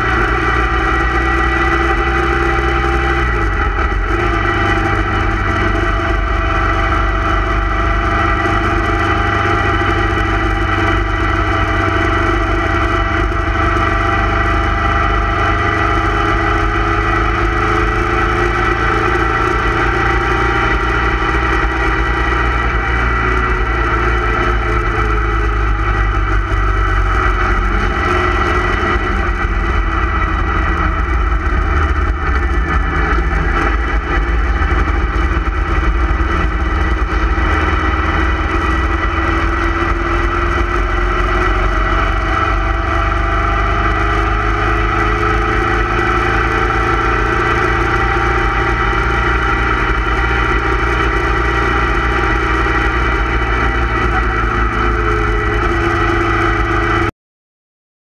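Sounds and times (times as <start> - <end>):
low wind rumble: 0.0 - 56.8
motorcycle engine running: 0.0 - 57.1.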